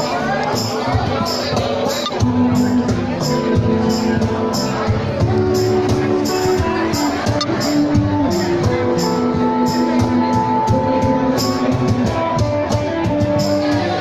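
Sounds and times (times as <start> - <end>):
drum kit steady beat: 0.0 - 14.0
sustained melodic notes: 0.0 - 14.0.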